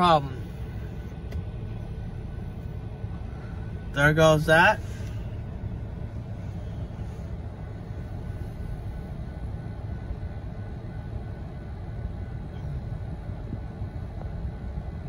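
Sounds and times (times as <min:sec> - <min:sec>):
low vehicle rumble inside car: 0:00.0 - 0:15.0.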